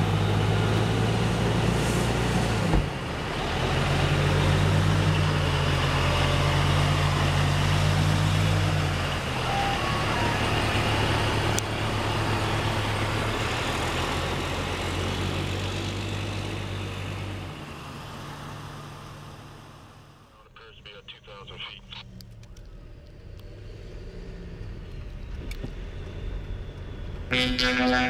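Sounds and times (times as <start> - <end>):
truck diesel engine droning: 0.0 - 28.0.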